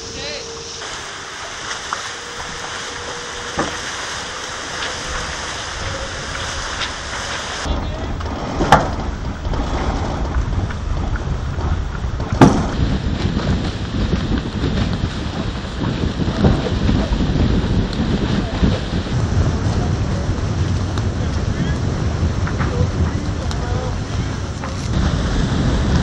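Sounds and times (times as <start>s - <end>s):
water rushing past hull: 0.0s - 26.0s
wind buffeting microphone: 0.0s - 26.0s.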